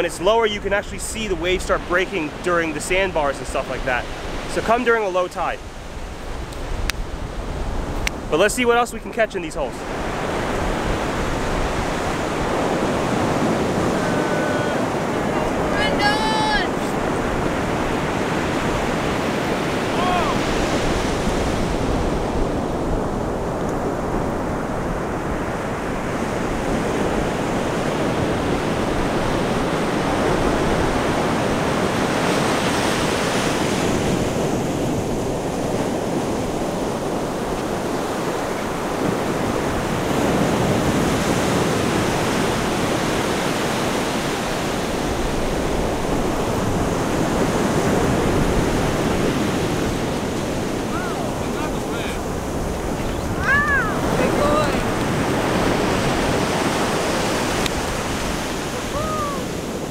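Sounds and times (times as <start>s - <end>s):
surf breaking on beach: 0.0s - 59.9s.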